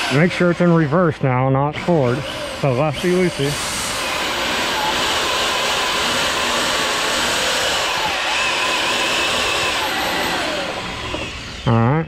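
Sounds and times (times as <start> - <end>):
cordless drill whining and grinding: 0.0 - 11.7.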